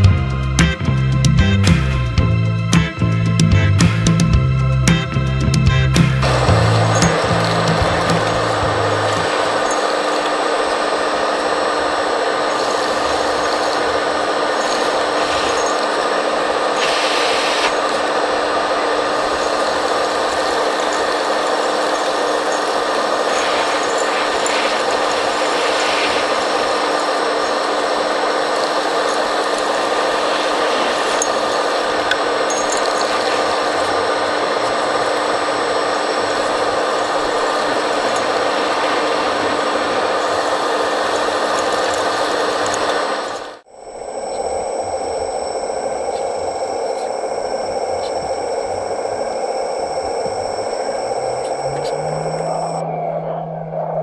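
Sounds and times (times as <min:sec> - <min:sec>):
vacuum fan humming: 0:00.0 - 0:54.0.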